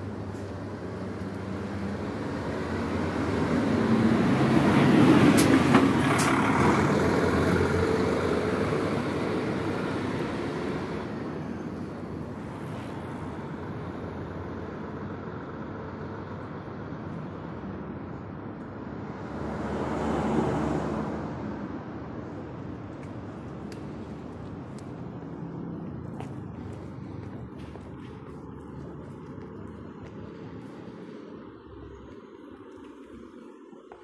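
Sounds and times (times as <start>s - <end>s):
motor vehicle passing by: 0.8s - 14.6s, 19.0s - 33.4s.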